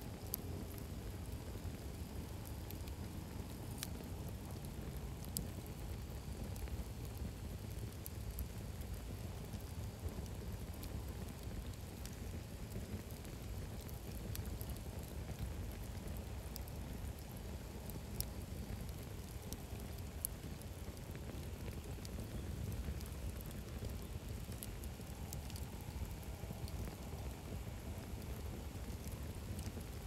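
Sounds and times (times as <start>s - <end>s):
fire low rumble: 0.0s - 30.0s
campfire crackling and popping: 0.1s - 30.0s.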